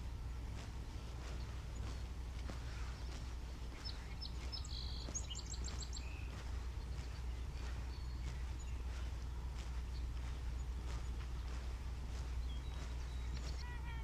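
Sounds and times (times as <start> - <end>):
footsteps: 0.0 - 14.0
low steady rumble: 0.0 - 14.0
small bird chirping and trilling: 1.2 - 14.0.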